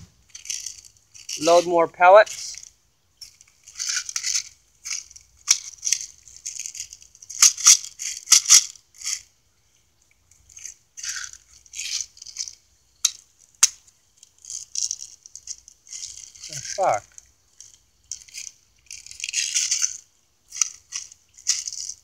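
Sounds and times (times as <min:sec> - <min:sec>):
plastic pellets rattling: 0:00.1 - 0:09.3, 0:10.3 - 0:22.0.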